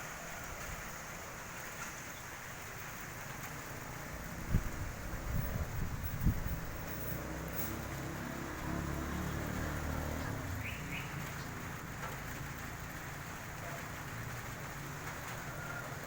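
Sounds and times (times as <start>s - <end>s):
rain falling steadily: 0.0s - 16.0s.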